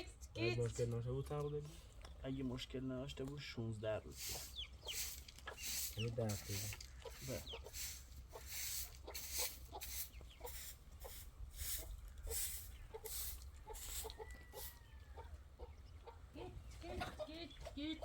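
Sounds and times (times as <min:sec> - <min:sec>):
chickens clucking: 0:03.3 - 0:18.0.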